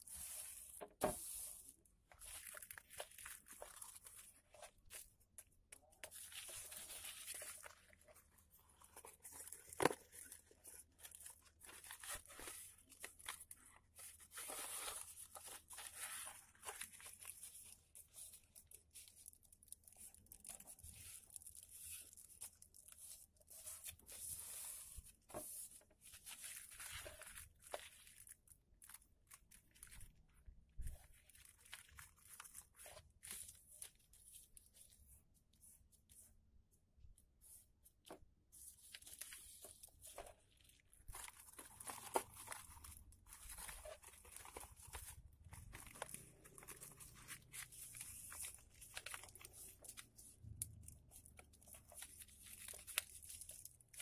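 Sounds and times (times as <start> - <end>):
paper rustling and crinkling: 0.0 - 36.3, 37.4 - 54.0.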